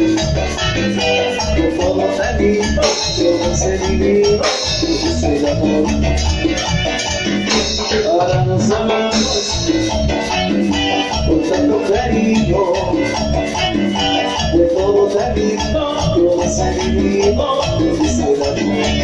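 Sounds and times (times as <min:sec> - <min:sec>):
live band playing latin dance music: 0:00.0 - 0:19.0
pulsing bass beat: 0:00.0 - 0:19.0.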